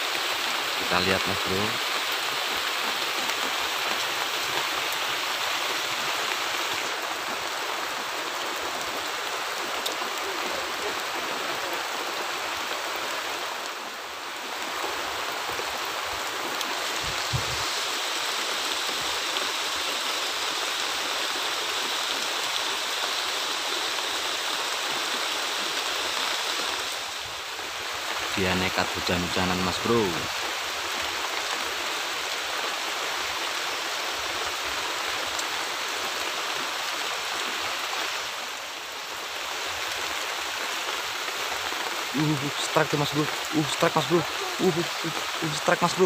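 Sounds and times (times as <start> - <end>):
rain on water and leaves: 0.0 - 46.0.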